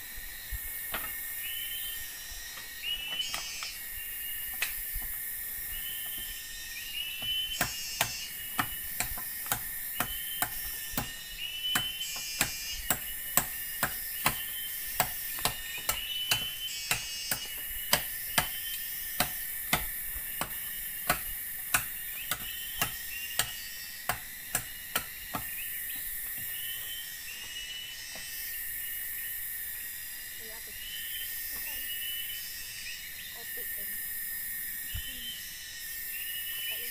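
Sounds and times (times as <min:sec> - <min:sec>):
insect chirping call: 0:00.0 - 0:36.9
insects droning: 0:00.0 - 0:36.9.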